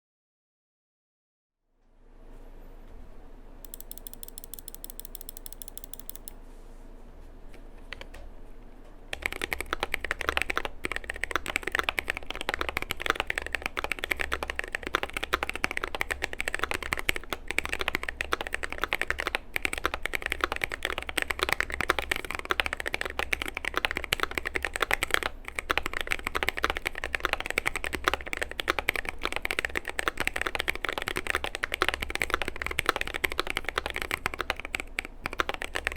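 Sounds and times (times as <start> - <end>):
mechanical keyboard typing: 3.7 - 6.4, 9.1 - 35.9.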